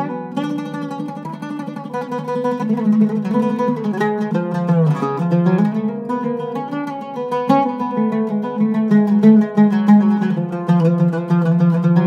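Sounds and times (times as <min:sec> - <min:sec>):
oud plucked with plectrum: 0:00.0 - 0:12.0.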